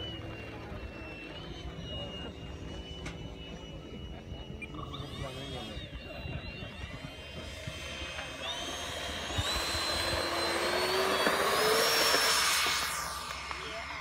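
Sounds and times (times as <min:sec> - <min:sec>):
model jet engine whining: 0:00.0 - 0:14.0.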